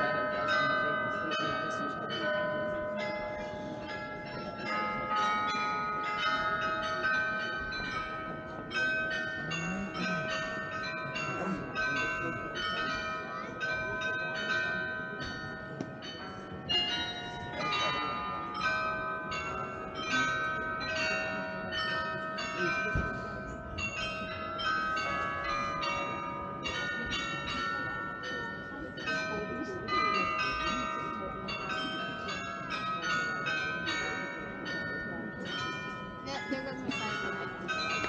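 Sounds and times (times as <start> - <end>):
glockenspiel bells playing a tune: 0.0 - 38.0.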